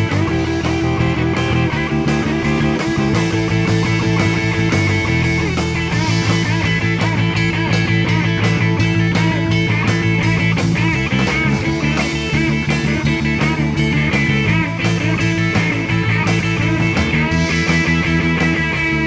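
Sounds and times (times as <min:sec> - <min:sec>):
bass guitar: 0:00.0 - 0:19.0
electric guitar bending notes: 0:00.0 - 0:19.0
steady drum beat: 0:00.0 - 0:19.0.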